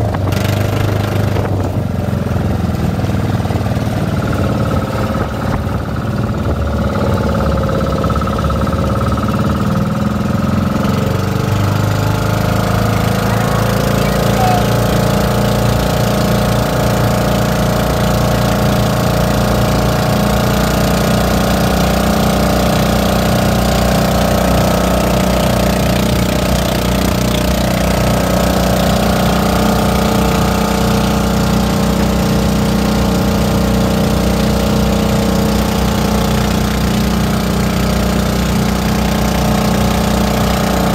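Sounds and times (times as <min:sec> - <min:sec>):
boat engine running: 0:00.0 - 0:40.9
water splashing along hull: 0:00.0 - 0:40.9.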